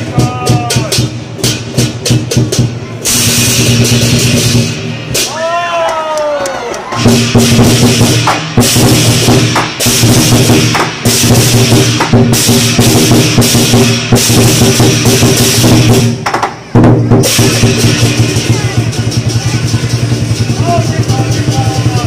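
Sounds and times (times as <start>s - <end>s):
big drum beating: 0.0s - 5.6s, 6.9s - 22.0s
crashing cymbals: 0.1s - 5.5s, 7.0s - 16.2s, 17.1s - 22.0s.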